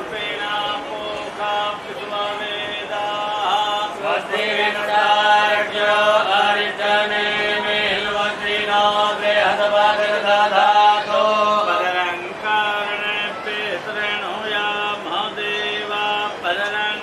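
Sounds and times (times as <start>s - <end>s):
person chanting mantras: 0.0s - 17.0s.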